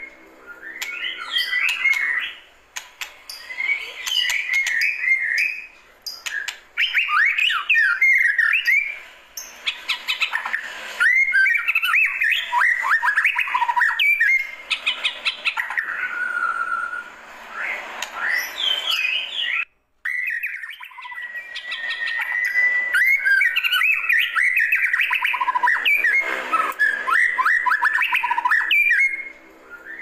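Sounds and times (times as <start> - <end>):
bird singing whistled notes: 0.0 - 2.5, 3.3 - 30.0.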